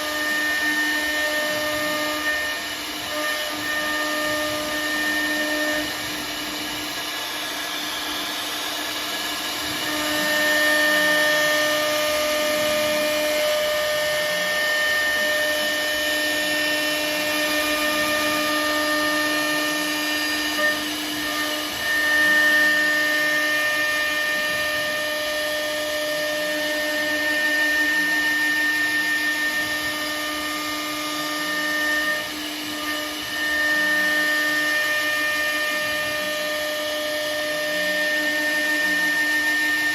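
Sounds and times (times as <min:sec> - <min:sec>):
router spindle whine while milling: 0:00.0 - 0:39.9.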